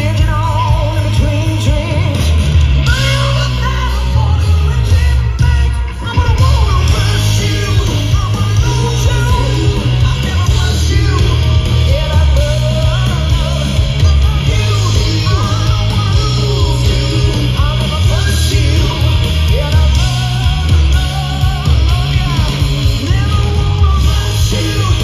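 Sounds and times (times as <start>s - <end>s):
bass guitar: 0.0s - 25.0s
drums: 0.0s - 25.0s
electric guitars: 0.0s - 25.0s.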